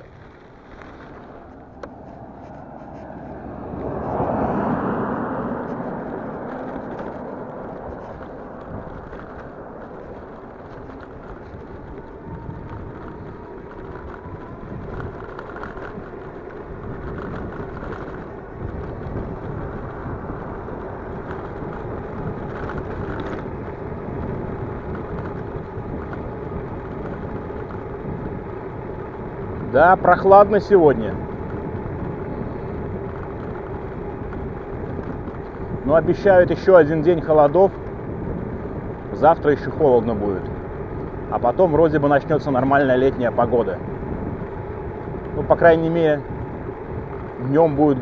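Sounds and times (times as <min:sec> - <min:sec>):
tyre noise on asphalt: 0:00.0 - 0:48.0
wind buffeting microphone: 0:00.0 - 0:48.0.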